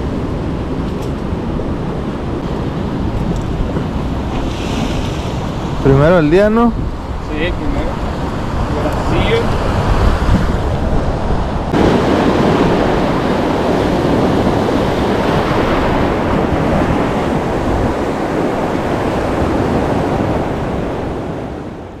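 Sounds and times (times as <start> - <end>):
surf rushing: 0.0 - 22.0
wind buffeting microphone: 0.0 - 22.0.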